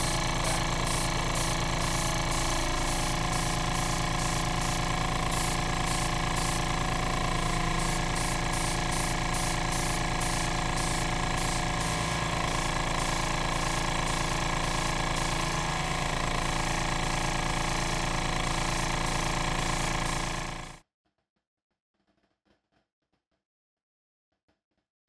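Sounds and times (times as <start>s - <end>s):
gas torch roaring: 0.0s - 20.8s.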